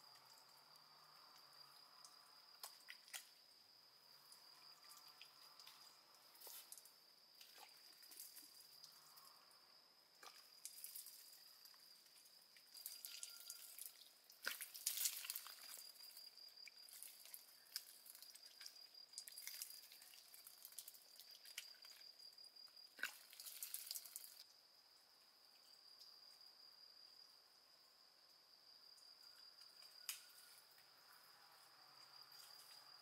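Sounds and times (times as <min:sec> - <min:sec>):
high-pitched insect trill: 0:00.0 - 0:33.0.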